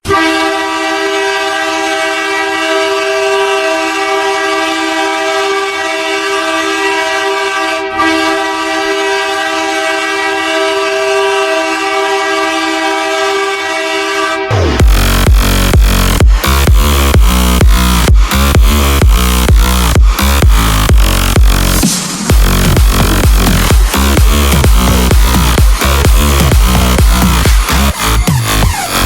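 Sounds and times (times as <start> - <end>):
multi-tone air horn blast: 0.0 - 29.0.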